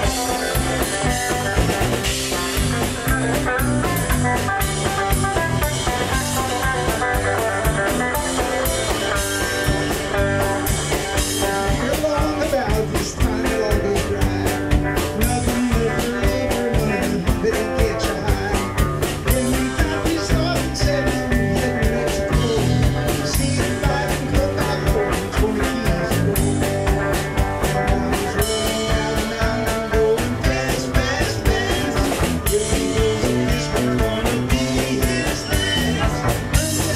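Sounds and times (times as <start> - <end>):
drum kit beat: 0.0 - 36.9
electric guitars: 0.0 - 36.9.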